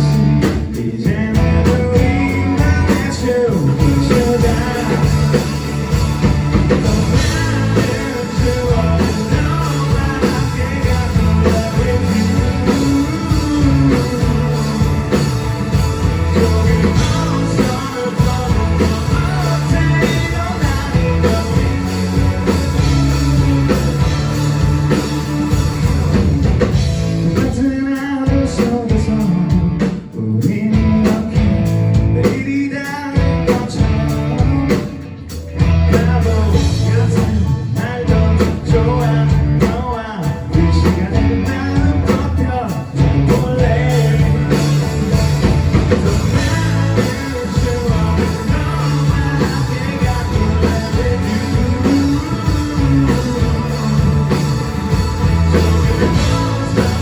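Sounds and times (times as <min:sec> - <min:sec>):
person singing: 0:00.0 - 0:26.1, 0:32.2 - 0:57.0
rock band playing live: 0:00.0 - 0:57.0.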